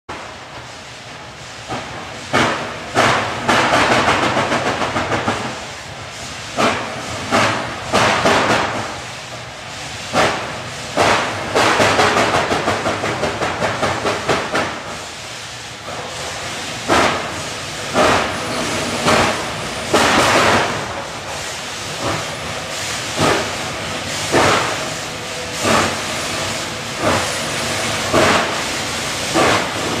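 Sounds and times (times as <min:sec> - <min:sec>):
steam hissing: 0:00.1 - 0:30.0
steam locomotive exhaust chuffs: 0:00.1 - 0:30.0.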